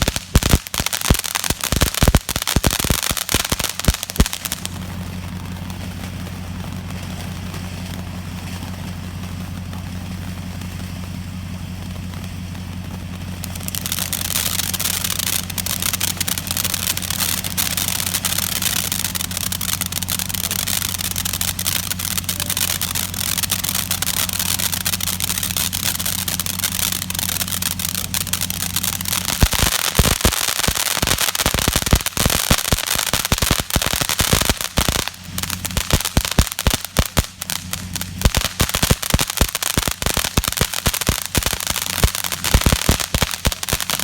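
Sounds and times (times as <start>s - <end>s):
firework fountain crackling: 0.0s - 44.0s
firework spraying hiss: 0.0s - 44.0s
low steady hum: 3.5s - 44.0s.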